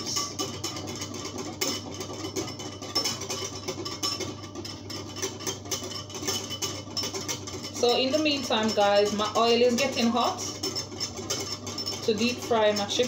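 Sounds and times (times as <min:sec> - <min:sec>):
whisk clicking in ceramic bowl: 0:00.0 - 0:13.0.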